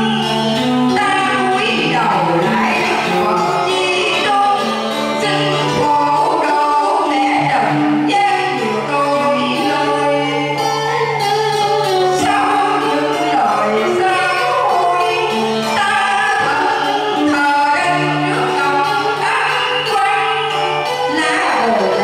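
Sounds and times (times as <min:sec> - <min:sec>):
group of voices singing: 0:00.0 - 0:11.3, 0:12.0 - 0:22.0.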